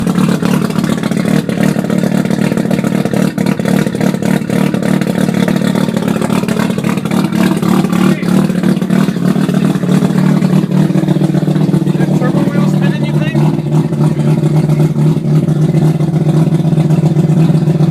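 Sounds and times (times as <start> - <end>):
exhaust crackles: 0.0 - 17.9
rotary engine running loud: 0.0 - 17.9.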